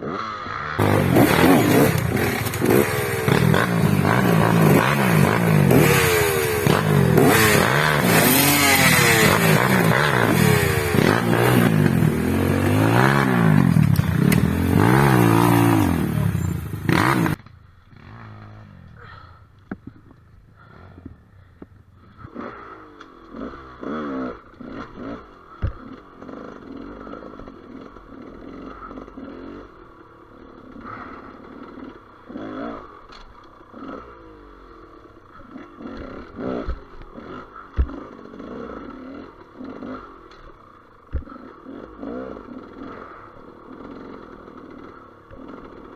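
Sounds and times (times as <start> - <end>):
motorcycle engine revving: 0.0 - 19.2, 19.8 - 45.9.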